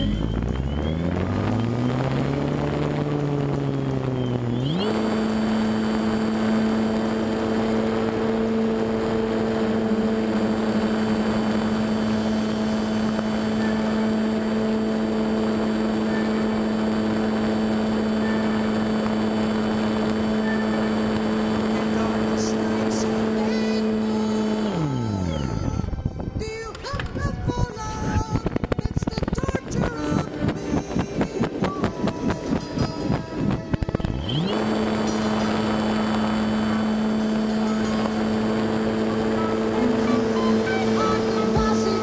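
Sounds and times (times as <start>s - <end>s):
model airplane motor and propeller: 0.0s - 26.3s, 28.4s - 42.0s.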